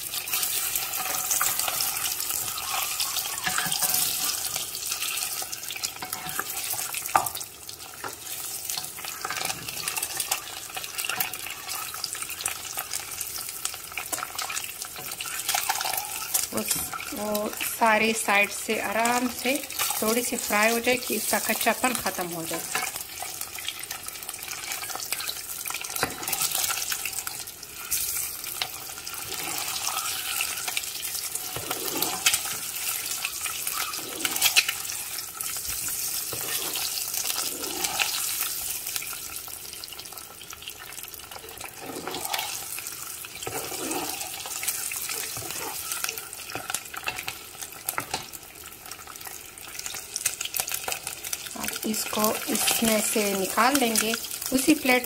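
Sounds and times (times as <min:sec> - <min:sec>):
eggs sizzling in hot oil: 0:00.0 - 0:55.0.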